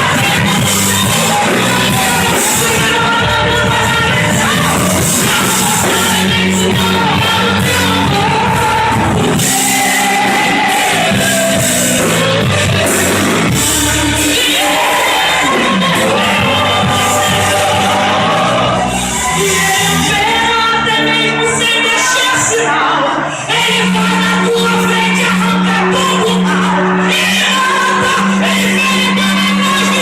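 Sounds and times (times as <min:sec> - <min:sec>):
band music with singer: 0:00.0 - 0:30.0.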